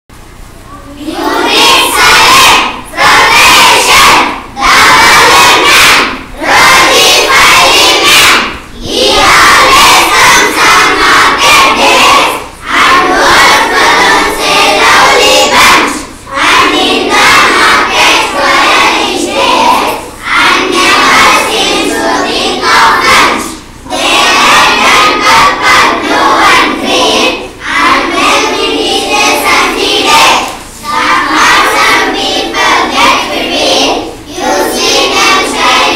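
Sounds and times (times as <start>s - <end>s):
children reading aloud together: 0.6s - 35.9s.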